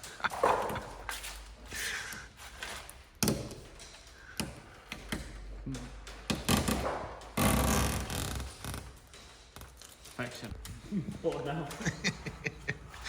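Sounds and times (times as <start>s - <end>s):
taps and knocks of tools: 0.0s - 13.0s.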